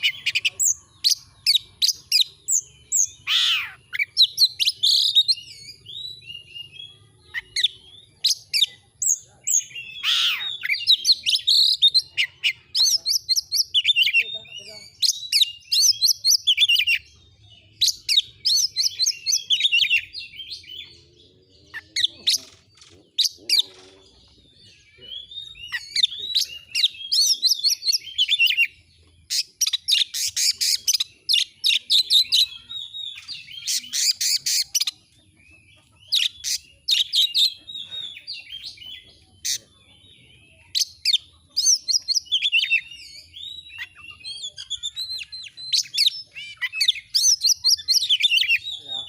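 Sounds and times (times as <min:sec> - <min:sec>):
bird singing whistled notes: 0:00.0 - 0:35.1, 0:36.1 - 0:49.0.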